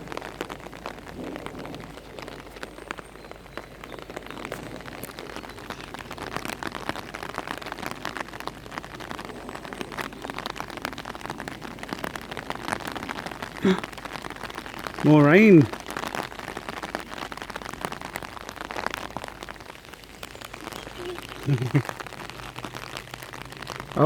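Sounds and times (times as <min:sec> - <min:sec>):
raindrops ticking on an umbrella: 0:00.0 - 0:24.0
steady rain: 0:00.0 - 0:24.0.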